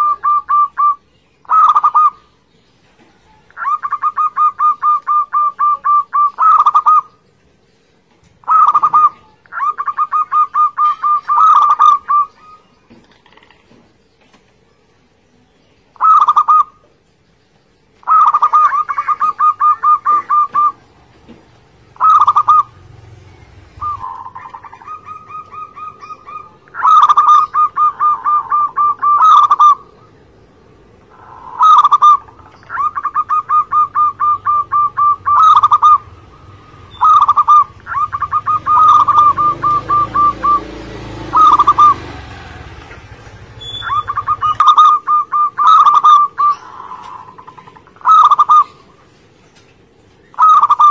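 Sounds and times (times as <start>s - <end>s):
dove cooing: 0.0s - 7.2s, 8.4s - 13.8s, 16.0s - 16.9s, 18.0s - 49.2s, 50.3s - 50.9s.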